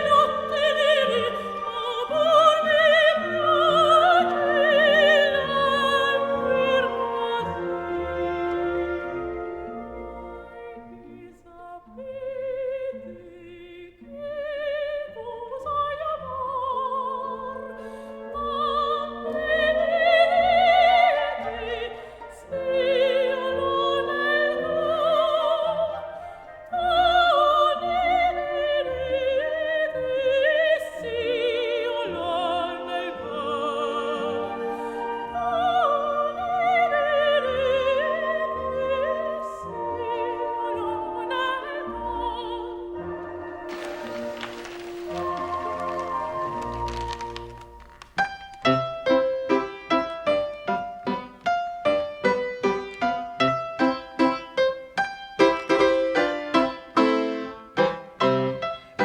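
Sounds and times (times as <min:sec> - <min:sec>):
orchestral accompaniment: 0:00.0 - 0:51.2.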